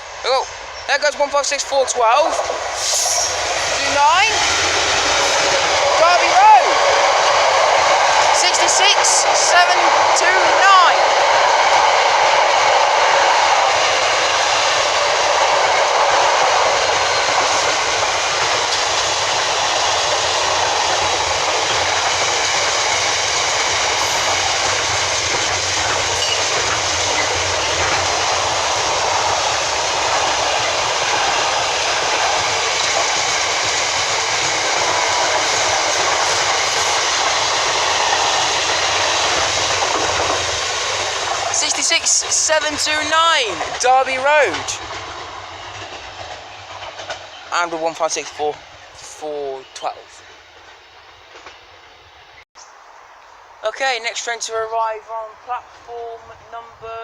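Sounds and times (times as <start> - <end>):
train wheel noise: 0.0 - 52.4
freight train passing: 0.0 - 57.0.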